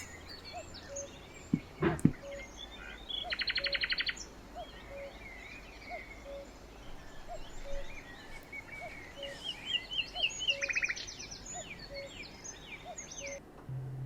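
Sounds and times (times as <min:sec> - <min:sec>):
birds chirping and singing: 0:00.0 - 0:13.4
faint steady hiss: 0:00.0 - 0:14.0.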